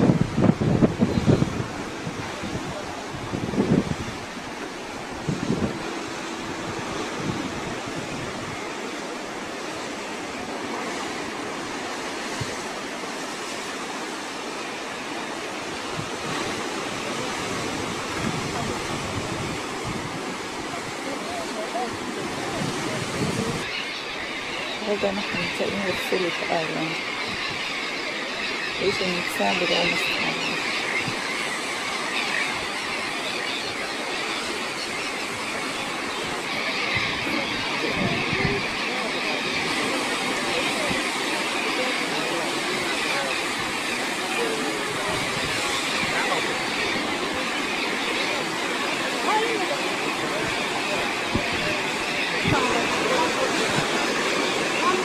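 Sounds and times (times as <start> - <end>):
wind on microphone: 0.0 - 27.8, 28.6 - 55.0
surf breaking on rocky shore: 0.0 - 55.0.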